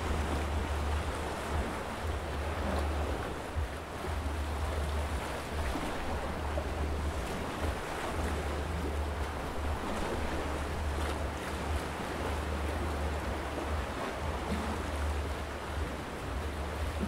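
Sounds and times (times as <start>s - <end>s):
sea washing against rocky shore: 0.0s - 17.0s
wind rumble on microphone: 0.0s - 17.0s.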